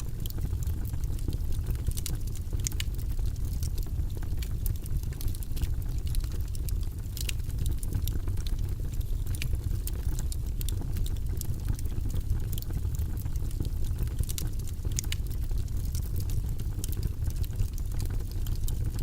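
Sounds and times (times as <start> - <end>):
logs crackling in a fireplace: 0.0 - 19.0
low fire rumble: 0.0 - 19.0.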